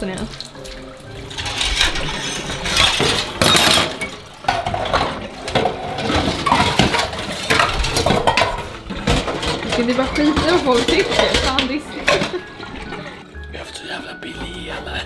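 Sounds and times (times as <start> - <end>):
dishes clinking in a sink: 0.0 - 13.2.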